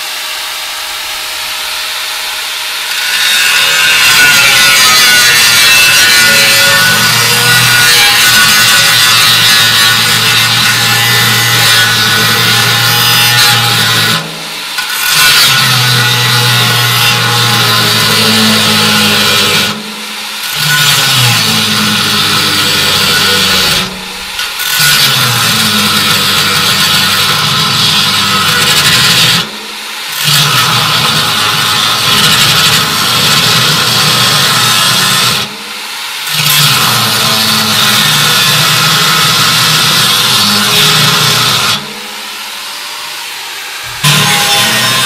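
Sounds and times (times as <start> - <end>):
angle grinder cutting steel: 0.0 - 45.0.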